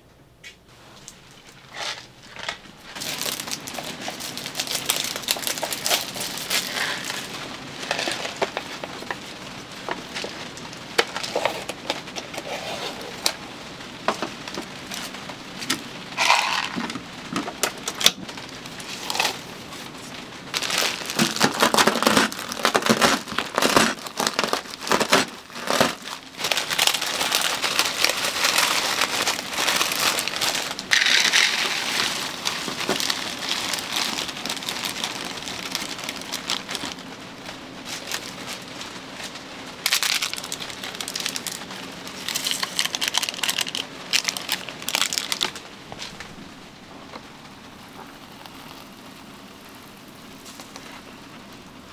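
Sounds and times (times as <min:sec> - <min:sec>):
crinkling and crackling: 0:00.4 - 0:51.9.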